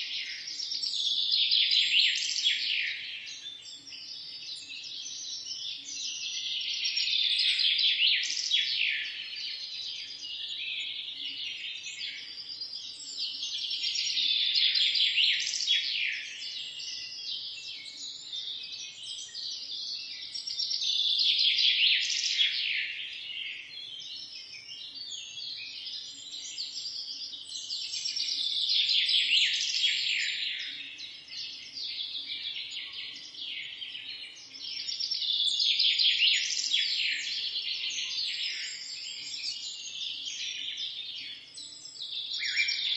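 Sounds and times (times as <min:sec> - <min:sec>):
quieter bird chirps: 0:00.0 - 0:42.9
songbird chirping song: 0:00.0 - 0:42.9.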